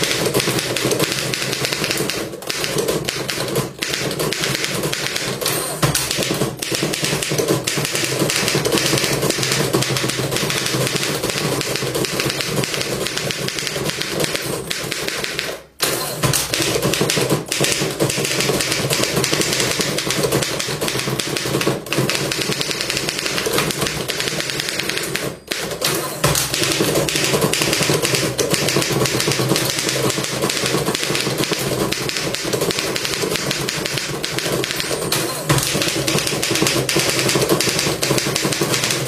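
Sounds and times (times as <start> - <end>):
manual typewriter typing: 0.0 - 39.0.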